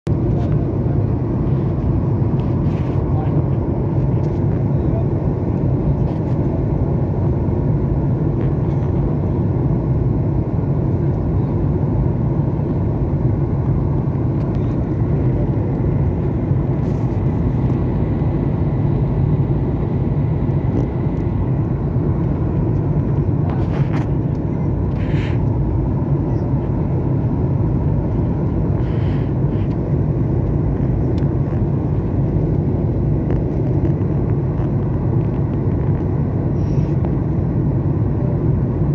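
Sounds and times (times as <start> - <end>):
airliner cabin drone: 0.1 - 38.9.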